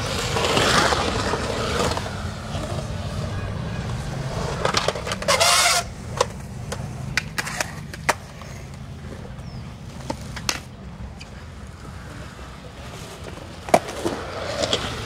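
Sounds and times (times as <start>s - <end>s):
skateboard clacking on concrete: 0.0s - 15.0s
skateboard scraping: 0.0s - 15.0s
skateboard wheels rumbling: 0.0s - 15.0s.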